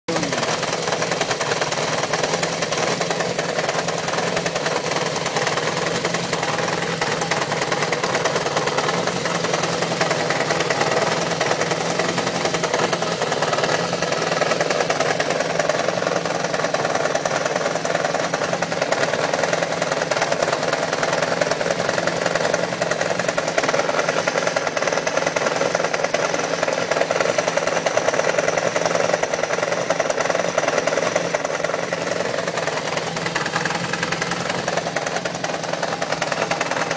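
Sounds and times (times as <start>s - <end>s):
engine knocking: 0.0s - 36.9s
motorcycle engine idling: 0.1s - 36.9s.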